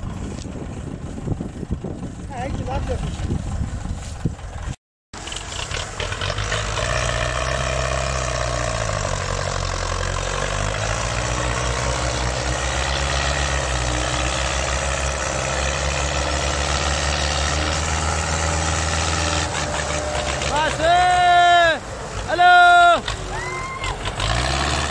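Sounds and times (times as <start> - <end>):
tractor diesel engines under load: 0.0 - 24.9.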